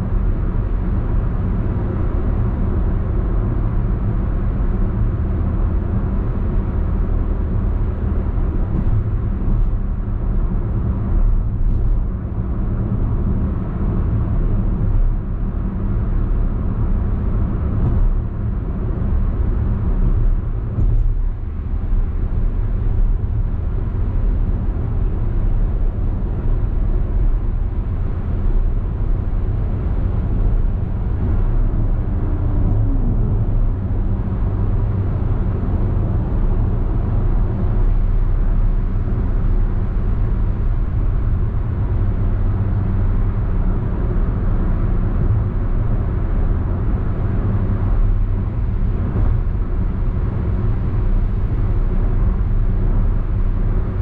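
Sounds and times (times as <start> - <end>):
low engine hum: 0.0 - 54.0
tyre and road noise: 0.0 - 54.0.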